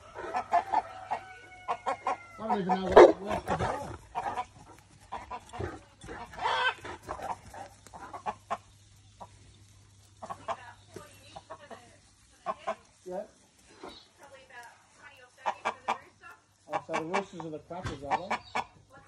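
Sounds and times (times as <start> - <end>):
chickens clucking and squawking: 0.0 - 14.3, 14.9 - 19.0.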